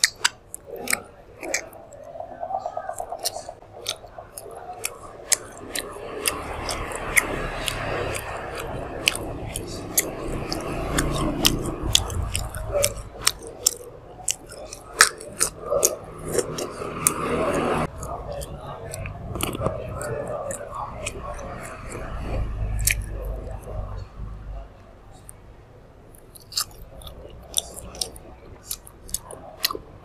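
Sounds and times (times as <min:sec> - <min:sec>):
wet mouth clicks and smacks: 0:00.0 - 0:23.8, 0:26.1 - 0:29.9
soft chewing: 0:00.0 - 0:30.0.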